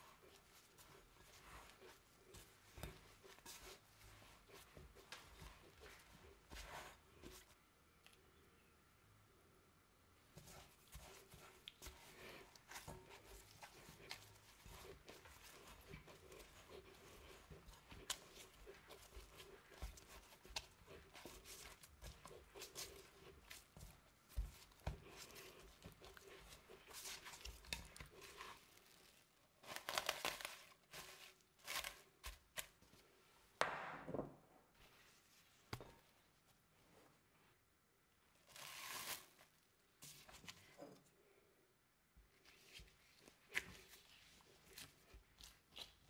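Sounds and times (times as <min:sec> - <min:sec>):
rustling and scraping in kitchen: 0:00.0 - 0:07.7, 0:10.2 - 0:33.6, 0:34.3 - 0:41.5, 0:42.2 - 0:46.0.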